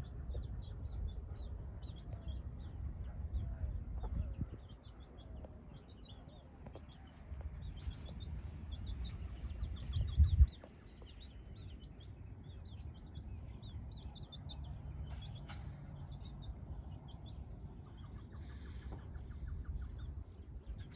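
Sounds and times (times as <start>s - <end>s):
birds chirping: 0.0s - 20.9s
wind rumble on microphone: 0.0s - 20.9s.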